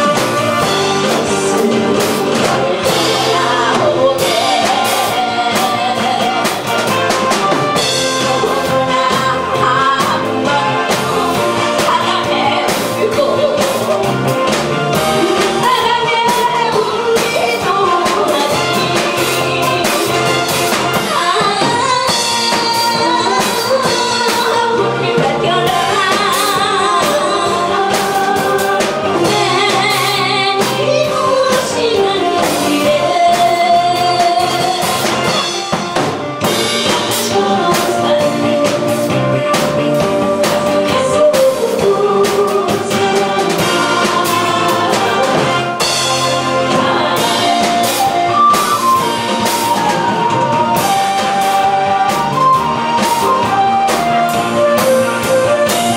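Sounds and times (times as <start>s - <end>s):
woman singing into a microphone: 0.0s - 35.9s, 36.8s - 55.9s
band with steady drum beat: 0.0s - 55.9s.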